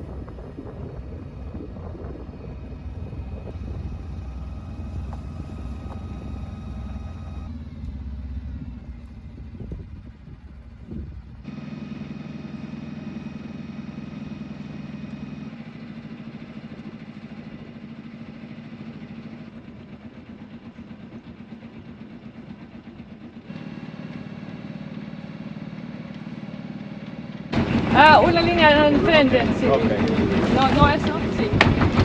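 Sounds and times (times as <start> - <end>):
boat engine running at low revs: 0.0 - 32.0.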